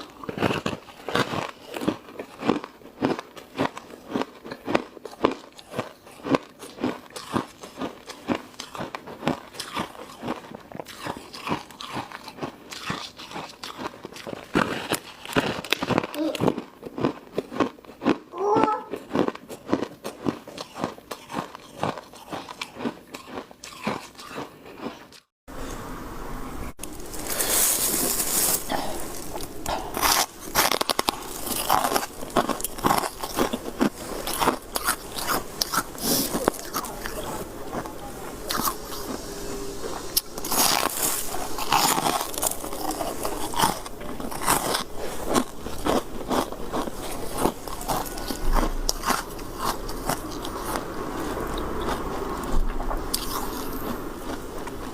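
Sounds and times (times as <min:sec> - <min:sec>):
person crunching shaved ice: 0:00.0 - 0:25.3, 0:26.8 - 0:39.2, 0:39.9 - 0:54.9.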